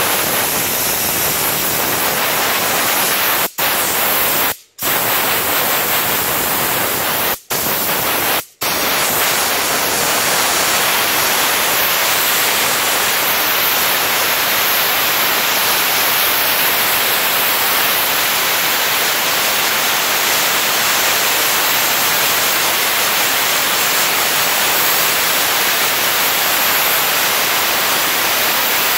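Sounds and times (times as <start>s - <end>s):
steam jet hissing: 0.0s - 28.9s.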